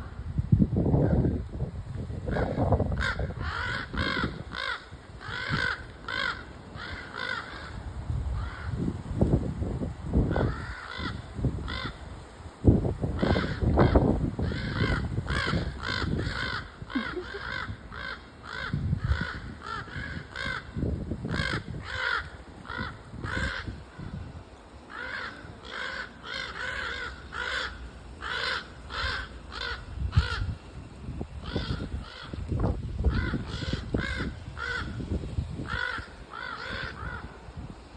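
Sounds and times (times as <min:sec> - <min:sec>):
crows cawing: 0:02.3 - 0:08.9, 0:10.3 - 0:12.0, 0:13.2 - 0:30.6, 0:31.4 - 0:32.4, 0:33.0 - 0:37.4.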